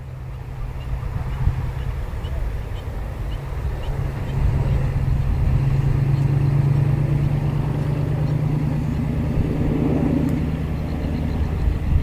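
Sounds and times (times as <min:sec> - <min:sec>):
diesel locomotive passing: 0:00.0 - 0:12.0.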